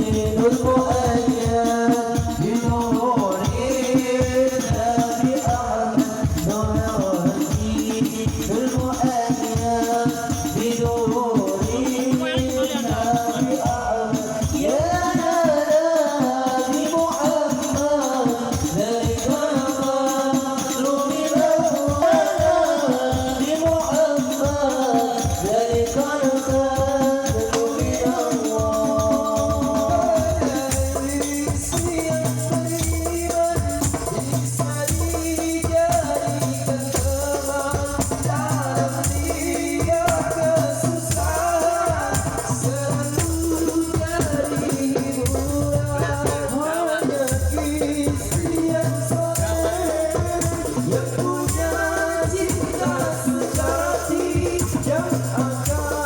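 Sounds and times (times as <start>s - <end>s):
music over sound system: 0.0s - 56.0s
person singing: 0.0s - 56.0s
shaker rattle percussion: 0.0s - 56.0s.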